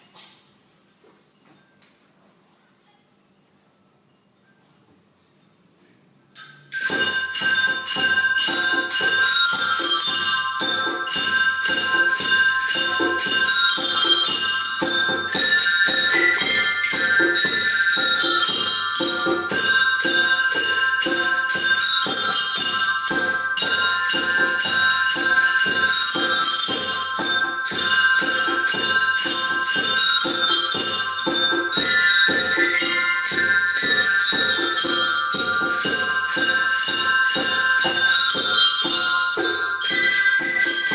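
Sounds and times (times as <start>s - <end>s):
glockenspiels playing: 3.5s - 40.9s.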